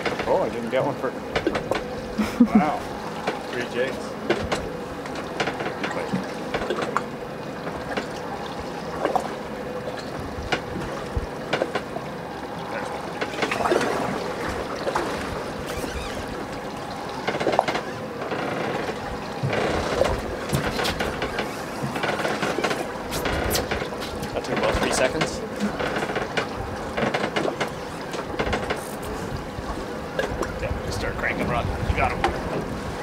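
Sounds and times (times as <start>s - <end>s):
water washing: 0.0s - 33.0s
wind: 0.0s - 33.0s.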